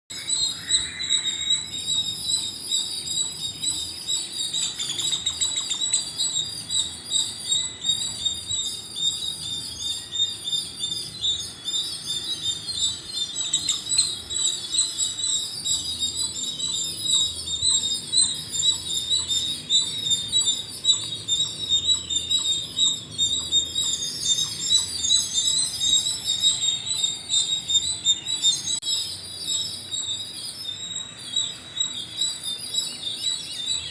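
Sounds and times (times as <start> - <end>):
flock of small birds chirping: 0.1 - 33.9.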